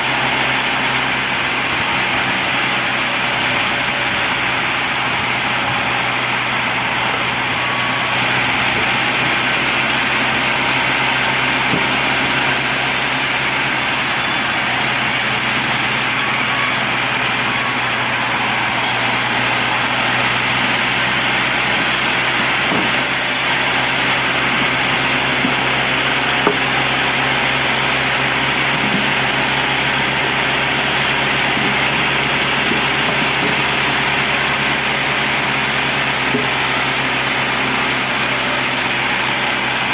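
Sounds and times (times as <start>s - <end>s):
band saw running: 0.0s - 39.9s.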